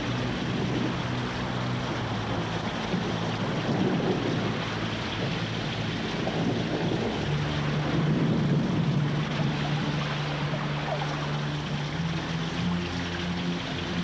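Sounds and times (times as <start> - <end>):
heavy rain and wind: 0.0 - 14.0
low held tones: 0.0 - 14.0.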